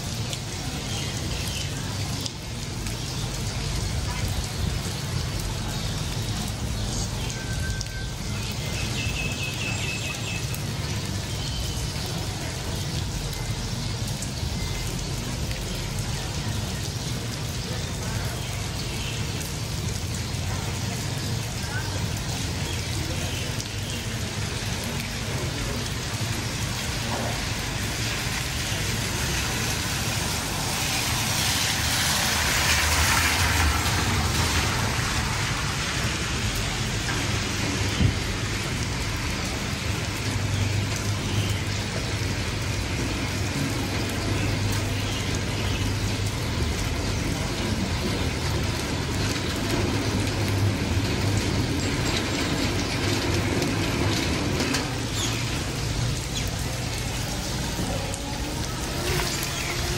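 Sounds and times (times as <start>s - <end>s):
rain falling on wet street: 0.0s - 59.9s.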